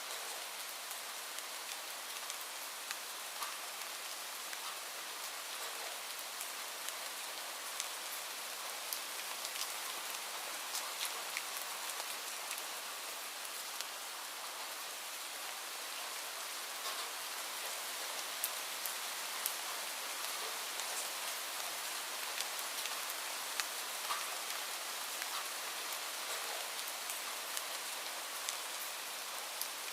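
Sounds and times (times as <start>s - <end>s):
raindrops ticking on a surface: 0.0s - 29.9s
steady rain hiss: 0.0s - 29.9s.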